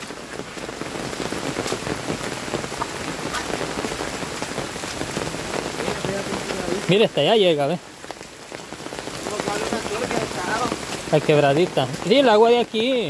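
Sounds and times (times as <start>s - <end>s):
heavy rain: 0.0s - 13.0s
raindrops ticking: 0.0s - 13.0s.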